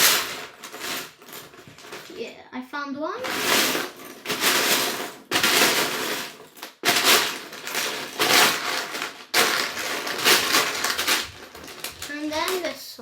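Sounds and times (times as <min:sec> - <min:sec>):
plastic pieces rattling: 0:00.0 - 0:02.3, 0:03.2 - 0:12.9.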